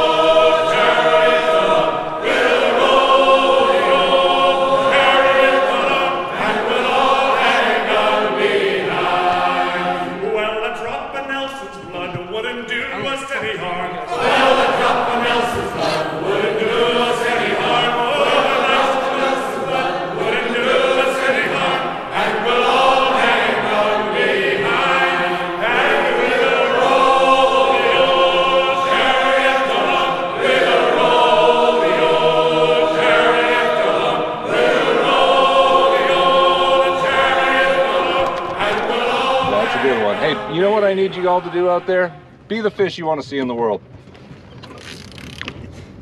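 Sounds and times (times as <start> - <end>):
group singing a sea shanty: 0.0 - 42.4.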